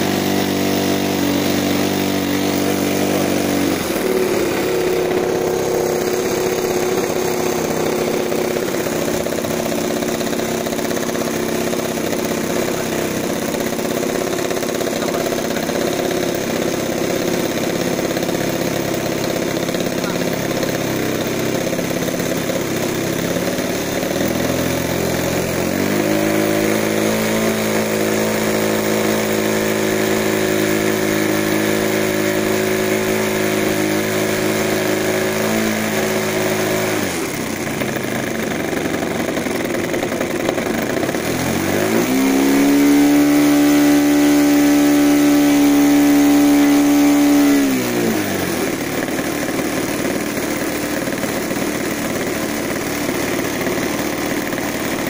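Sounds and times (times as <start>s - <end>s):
model aircraft engine running: 0.0s - 55.0s.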